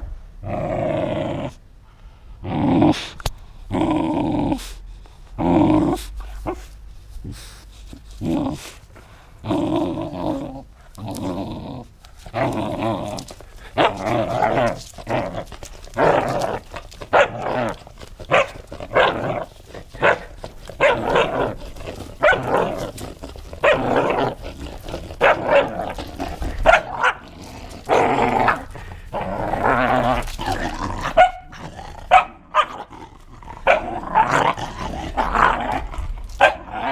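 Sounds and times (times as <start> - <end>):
dog play-growling and barking: 0.0 - 1.6, 5.3 - 6.8, 7.8 - 36.9.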